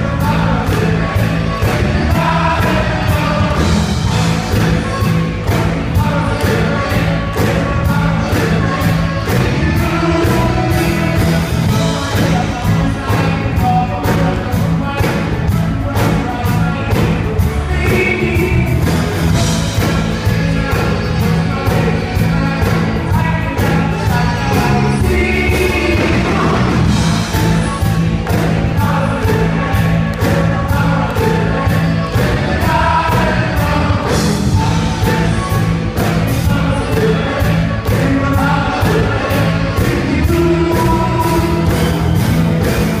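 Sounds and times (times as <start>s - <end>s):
bass guitar: 0.0s - 43.0s
drums steady beat: 0.0s - 43.0s
electric guitar: 0.0s - 43.0s
keyboards: 0.0s - 43.0s
several voices singing: 0.0s - 43.0s.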